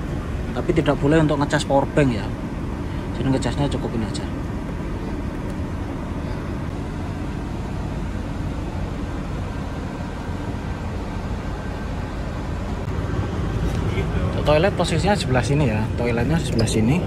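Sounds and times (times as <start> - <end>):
air conditioning whine: 0.0 - 17.0
bus engine rumble: 0.0 - 17.0.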